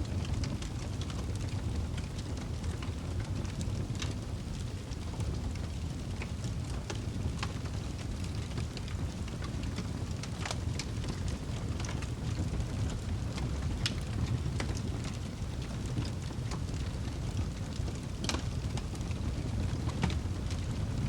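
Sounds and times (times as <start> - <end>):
fire crackling and popping: 0.0 - 21.0
wood fire burning: 0.0 - 21.0.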